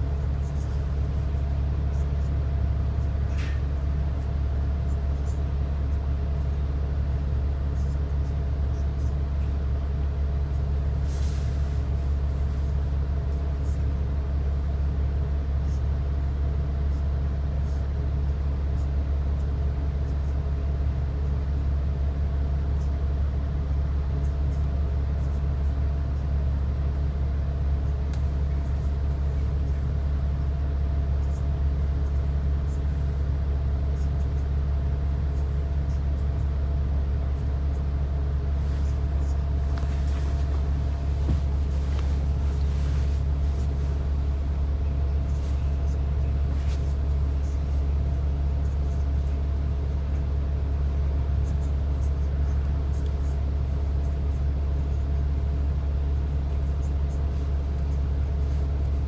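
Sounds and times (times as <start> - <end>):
road rumble: 0.0 - 17.6, 26.5 - 59.0
bus engine drone: 0.0 - 59.0.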